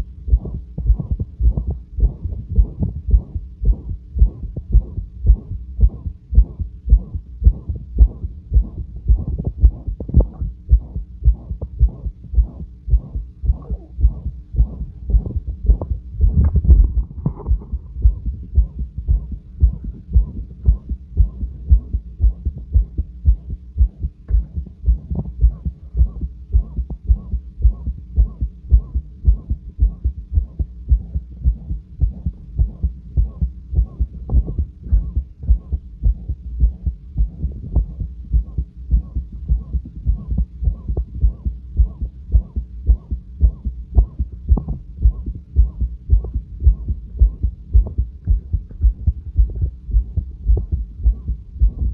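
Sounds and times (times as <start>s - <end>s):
heartbeat through stethoscope: 0.0s - 51.9s
whooshing heart murmur: 0.0s - 51.9s.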